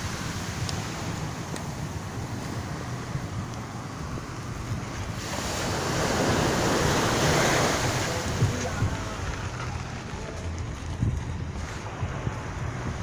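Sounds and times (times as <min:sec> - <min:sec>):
sea surf washing on beach: 0:00.0 - 0:13.0
wind buffeting microphone: 0:00.0 - 0:13.0.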